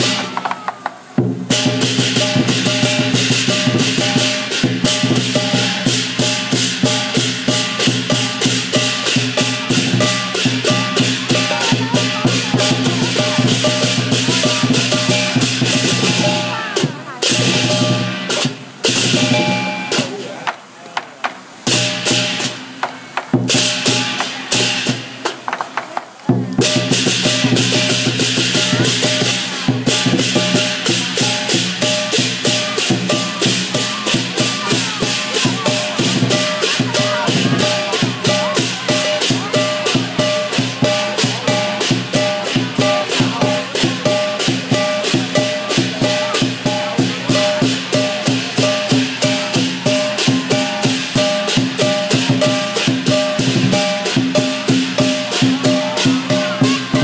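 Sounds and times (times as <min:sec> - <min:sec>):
drum gong and cymbals beat: 0:00.0 - 0:20.7, 0:21.3 - 0:25.6, 0:26.3 - 0:57.0.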